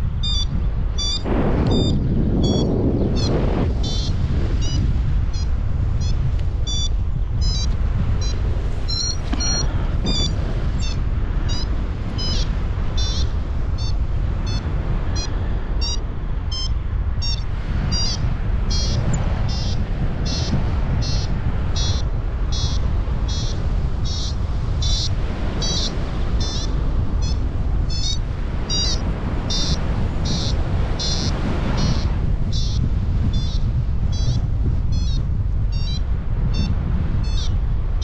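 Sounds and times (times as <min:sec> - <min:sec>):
wind rush on microphone: 0:00.0 - 0:38.0
variometer beeping: 0:00.2 - 0:37.6.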